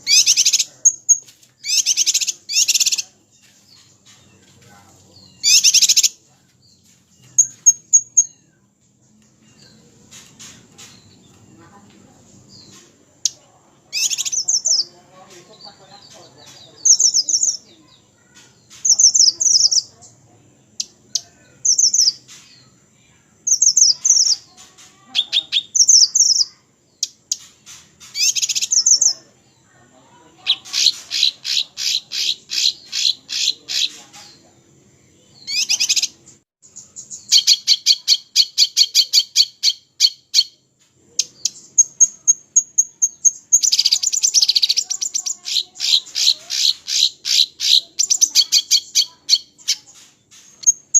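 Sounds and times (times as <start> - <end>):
small songbirds singing: 0.0 - 50.9.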